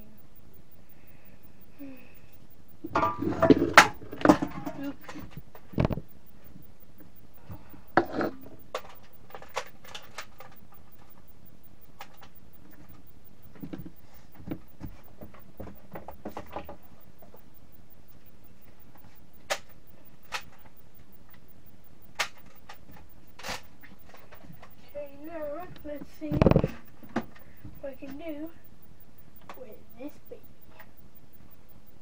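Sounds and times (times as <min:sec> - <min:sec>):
sharp clicks and knocks: 0:02.6 - 0:29.8.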